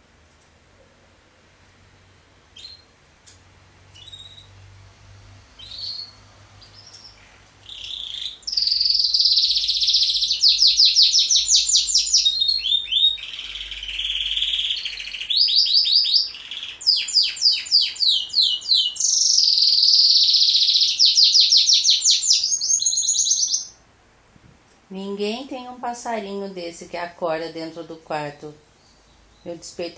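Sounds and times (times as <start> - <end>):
songbird chirping and trilling: 2.5 - 2.9, 3.9 - 4.8, 5.6 - 23.8, 25.0 - 29.9.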